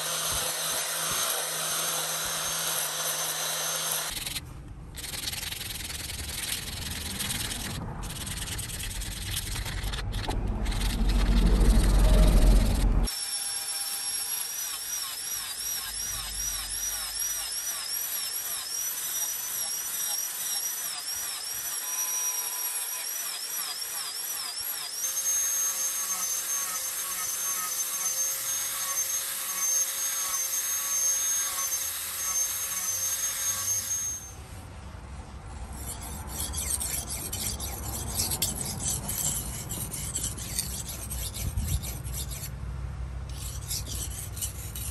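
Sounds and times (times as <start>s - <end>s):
angle grinder whining against metal: 0.0s - 4.4s, 5.0s - 34.6s, 35.7s - 42.5s
sandpaper rasping on steel blade: 0.0s - 13.2s, 14.4s - 34.6s, 35.5s - 42.6s, 43.3s - 44.9s.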